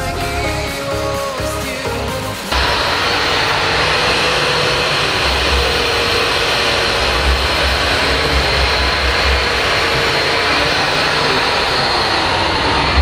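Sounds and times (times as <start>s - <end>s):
wire brush grinder on metal: 2.5s - 13.0s.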